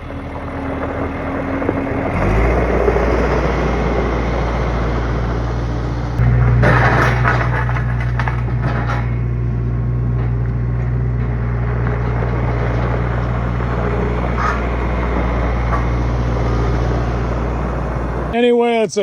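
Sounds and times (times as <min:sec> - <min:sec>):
skid steer engine running: 0:00.0 - 0:18.4.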